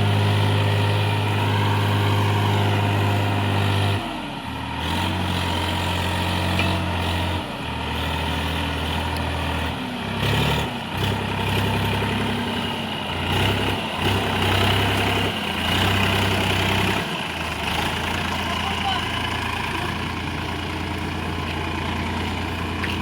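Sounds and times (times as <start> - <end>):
tractor diesel engine straining: 0.0 - 23.0.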